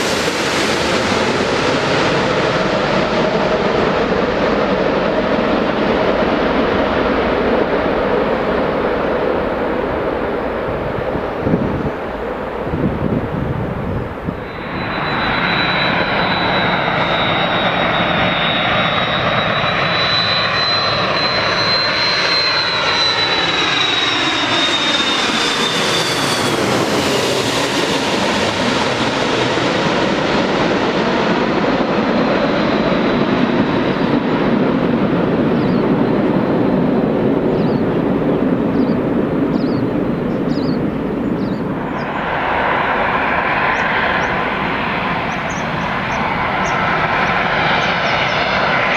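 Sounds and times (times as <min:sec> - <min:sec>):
jet airliner passing overhead: 0:00.0 - 0:48.9.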